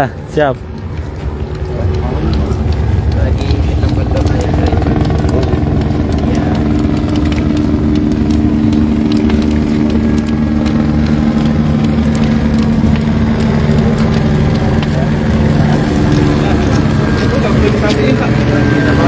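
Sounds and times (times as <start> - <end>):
engine humming steadily: 0.0 - 19.0
faint sharp ticks: 0.3 - 18.8.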